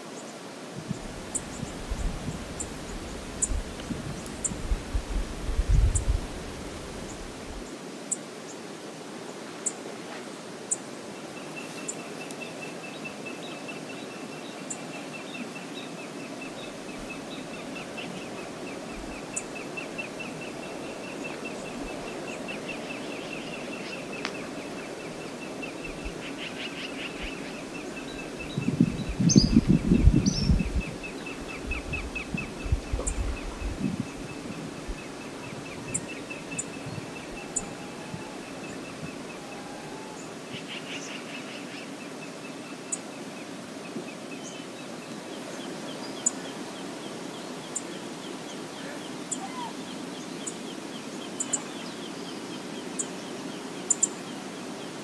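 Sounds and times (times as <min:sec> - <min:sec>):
river water rushing: 0:00.0 - 0:28.6, 0:31.0 - 0:55.0.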